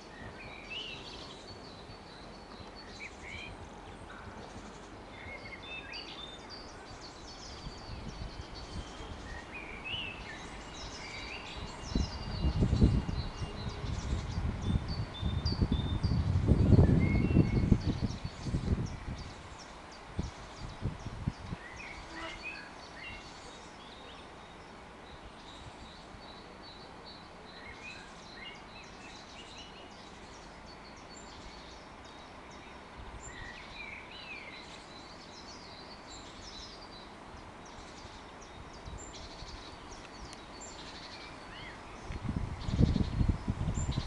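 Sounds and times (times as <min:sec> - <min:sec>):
songbirds chirping: 0:00.0 - 0:44.0
steady outdoor hiss: 0:00.0 - 0:44.0.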